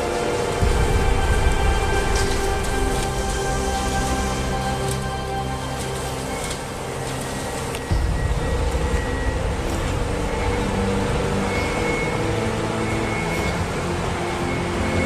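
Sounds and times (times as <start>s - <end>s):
background music with held notes: 0.0s - 15.0s
low mechanical rumble: 0.0s - 15.0s.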